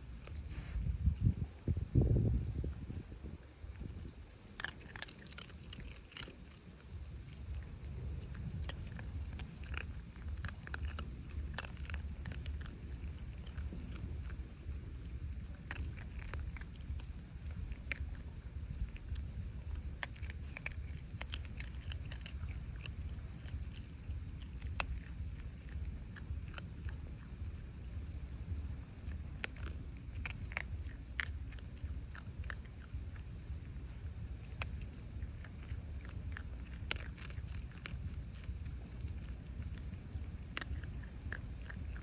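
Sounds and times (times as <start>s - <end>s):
animals crunching dry kibble: 0.0s - 1.4s, 2.4s - 42.0s.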